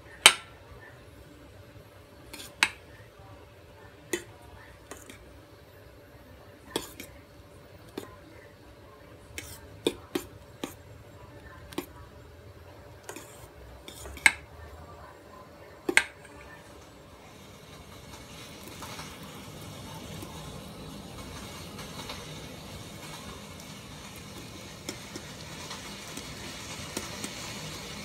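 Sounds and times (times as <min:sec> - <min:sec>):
spoon stirring runny mixture: 0:00.0 - 0:28.0.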